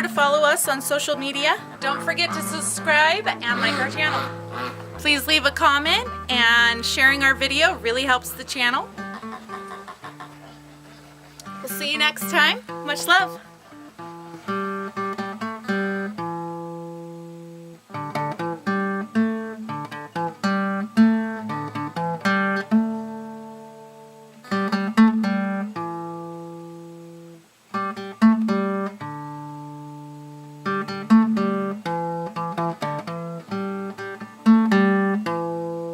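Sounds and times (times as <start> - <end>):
acoustic guitar melody: 0.0 - 35.9.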